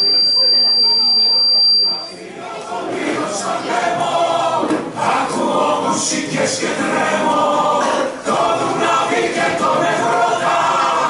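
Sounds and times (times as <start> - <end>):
choir singing: 2.1 - 11.0.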